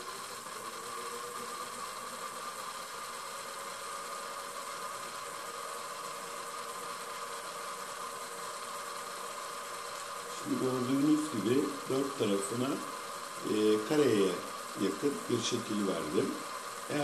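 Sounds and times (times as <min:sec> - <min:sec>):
grinding machine motor hum: 0:00.0 - 0:17.0.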